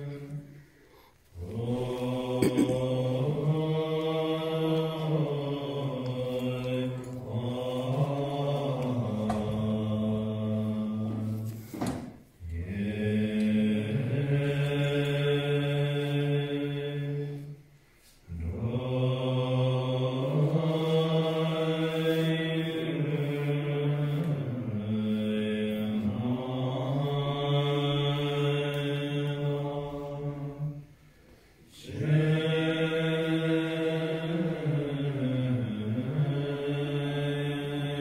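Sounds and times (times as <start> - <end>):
monks chanting low notes: 0.0 - 38.0.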